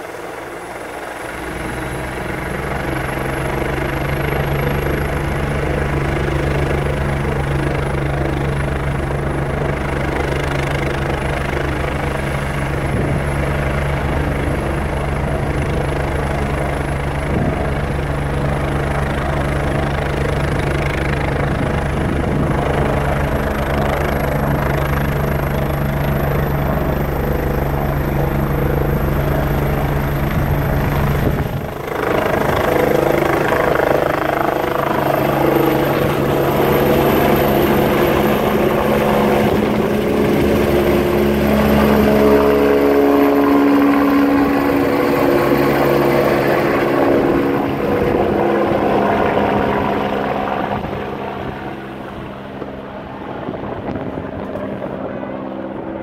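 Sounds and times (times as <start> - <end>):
helicopter rotor drone: 0.0 - 56.0
high turbine whine: 0.0 - 56.0.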